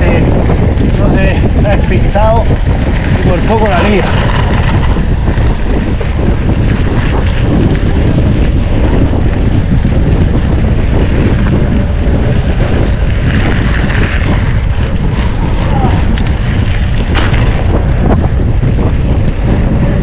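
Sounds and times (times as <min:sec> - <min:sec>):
bike tyres rumbling over gravel: 0:00.0 - 0:20.0
wind buffeting microphone: 0:00.0 - 0:20.0.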